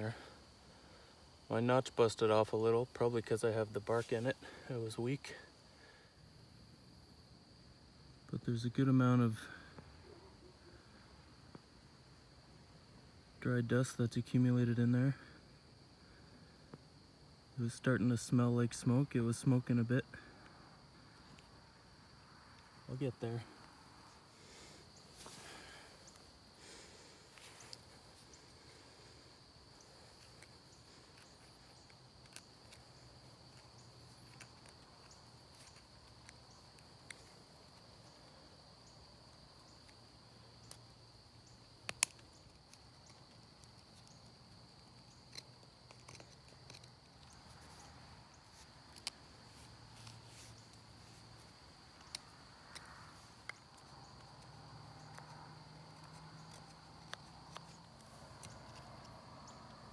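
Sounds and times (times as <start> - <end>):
high-pitched insect trill: 0.0 - 59.9.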